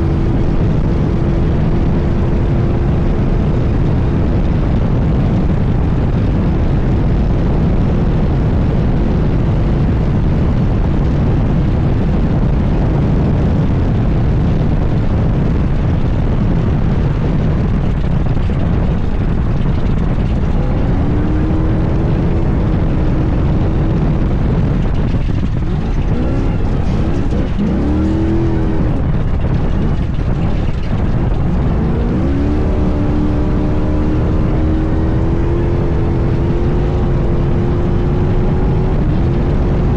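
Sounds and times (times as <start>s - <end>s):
race car engine rumbling: 0.0s - 39.9s.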